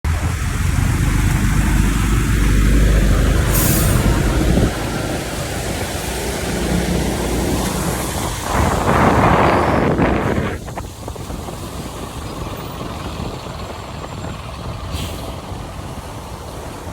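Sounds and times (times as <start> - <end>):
heavy vehicle rumble: 0.0 - 16.9.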